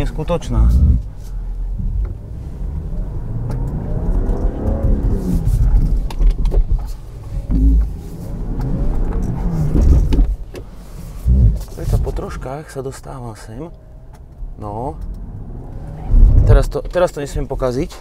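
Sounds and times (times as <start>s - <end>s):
car engine under load: 0.0s - 18.0s.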